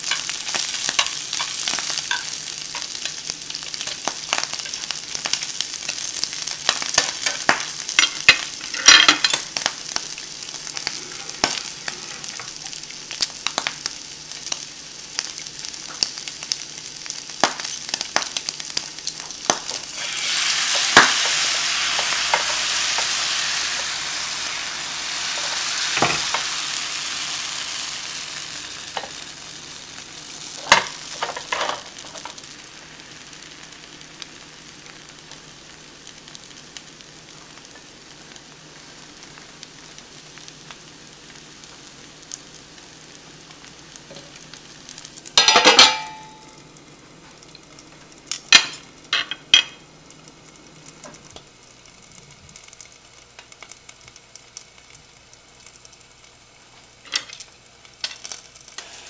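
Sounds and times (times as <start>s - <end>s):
batter sizzling in hot pan: 0.0s - 59.0s
food sizzling in oil: 0.0s - 59.0s.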